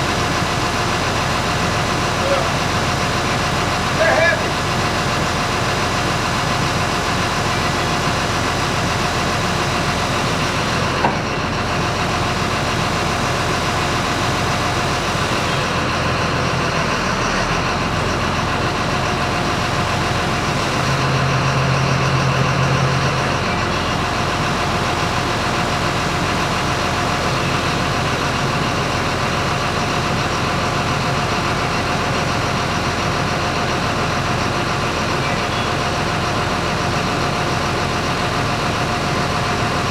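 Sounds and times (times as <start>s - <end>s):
engine idling: 0.0s - 39.9s
engine knock: 0.0s - 39.9s.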